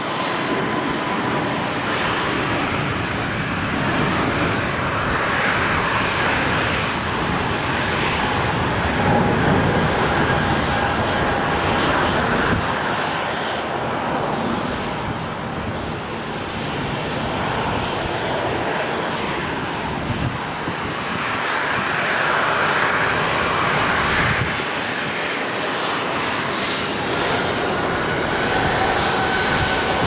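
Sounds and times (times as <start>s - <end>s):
jet engine taxiing: 0.0s - 30.0s.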